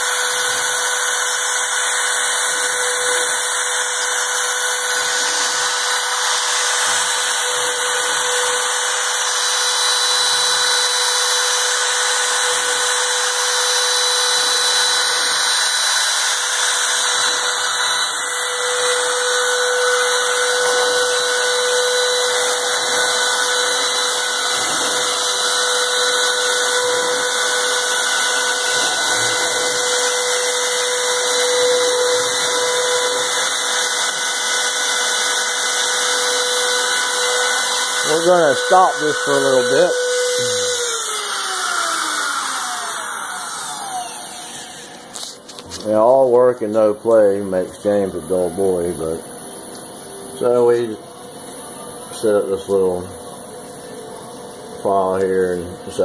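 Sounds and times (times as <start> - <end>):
machine spindle motor whine: 0.0 - 56.0.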